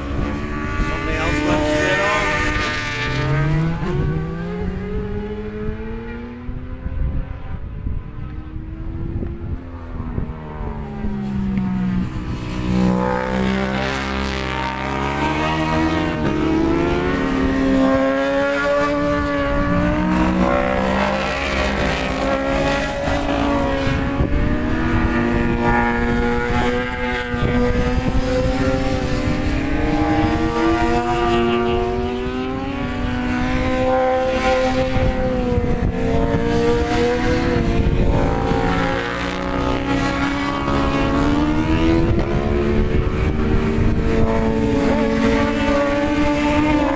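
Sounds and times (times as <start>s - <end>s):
low wind rumble: 0.0s - 46.9s
motorcycle engine revving: 0.0s - 46.9s.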